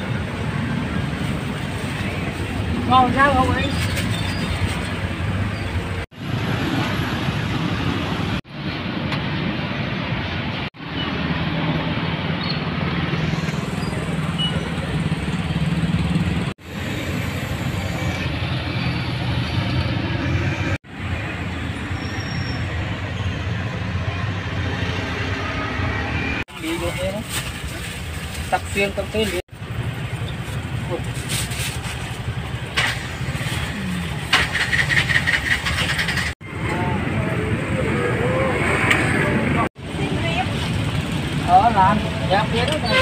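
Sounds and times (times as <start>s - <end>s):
motorbikes passing: 0.0s - 26.8s, 32.1s - 43.0s
cars passing: 0.0s - 43.0s.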